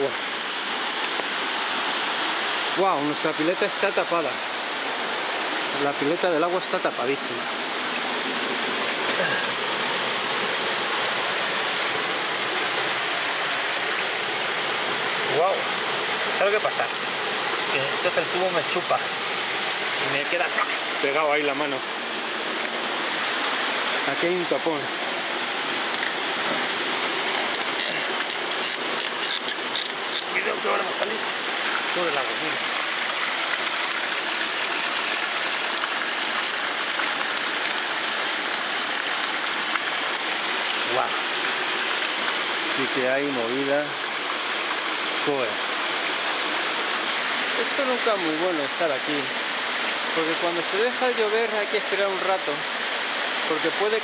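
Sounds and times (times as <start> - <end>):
rainwater rushing: 0.0 - 54.0
water gushing from a pipe: 0.0 - 54.0.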